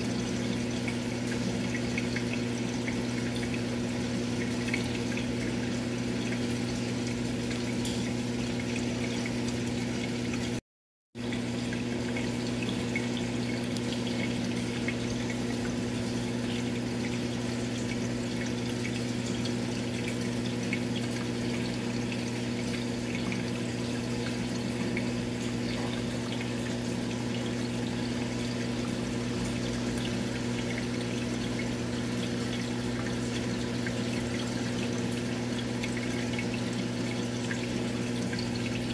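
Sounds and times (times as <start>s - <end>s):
aquarium pump humming: 0.0s - 10.6s, 11.2s - 38.9s
water trickling and bubbling: 0.0s - 10.6s, 11.2s - 38.9s.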